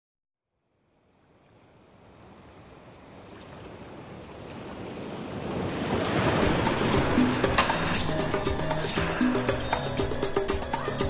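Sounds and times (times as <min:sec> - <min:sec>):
ocean surf wash: 0:01.0 - 0:11.0.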